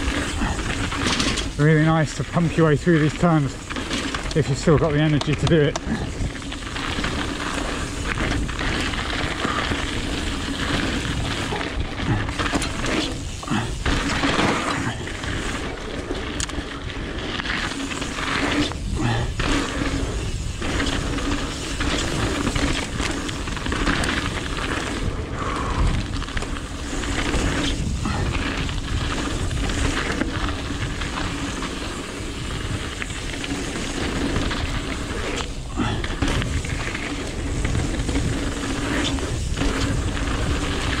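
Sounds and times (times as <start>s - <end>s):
bike rattling: 0.0s - 41.0s
bike tyres on gravel: 0.0s - 41.0s.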